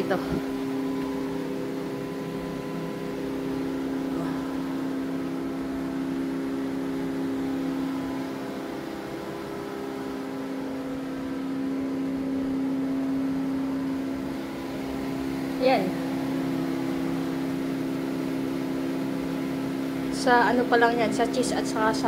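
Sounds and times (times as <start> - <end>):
refrigerator machinery humming: 0.0 - 22.0.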